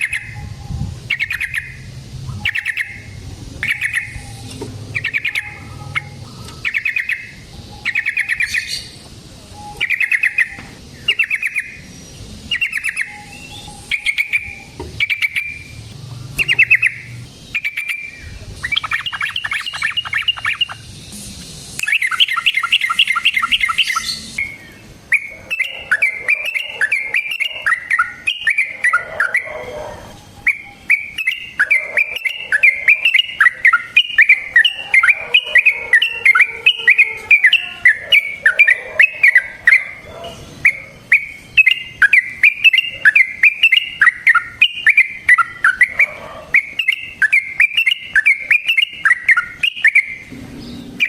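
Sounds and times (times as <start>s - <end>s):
bulbul singing: 0.0s - 51.0s.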